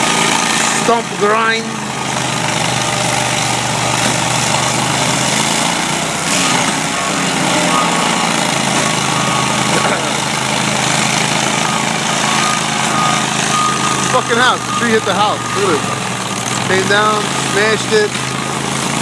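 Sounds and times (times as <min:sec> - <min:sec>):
stump grinder engine running: 0:00.0 - 0:19.0.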